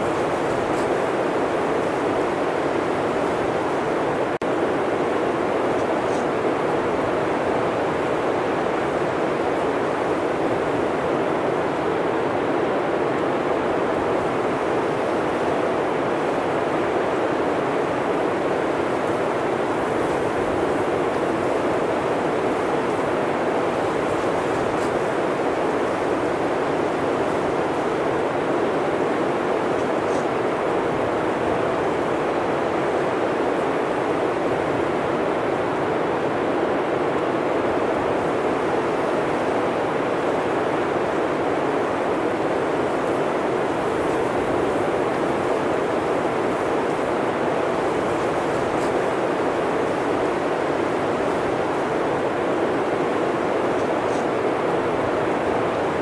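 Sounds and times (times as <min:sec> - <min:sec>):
blizzard wind roaring: 0:00.0 - 0:56.0.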